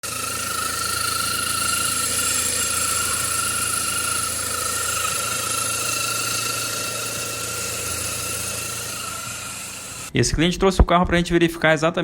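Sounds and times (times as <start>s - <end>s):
high-pitched belt whine: 0.0s - 11.4s.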